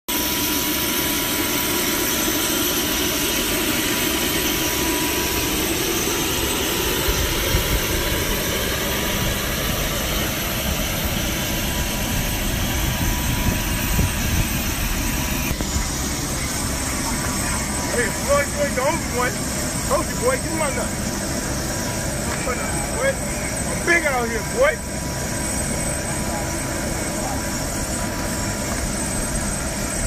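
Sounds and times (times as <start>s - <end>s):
high turbine whine: 0.1s - 30.0s
jet turbine engines roaring: 0.1s - 30.0s.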